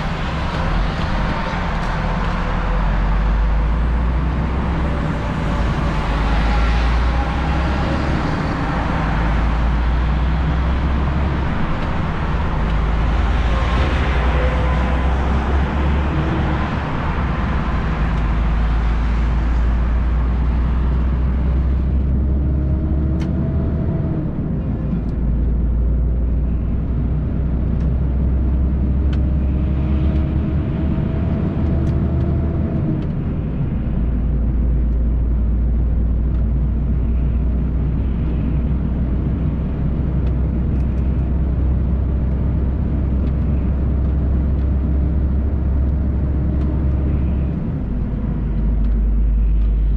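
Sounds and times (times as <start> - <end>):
road and wind hiss: 0.0 - 49.9
truck diesel engine rumble: 0.0 - 49.9.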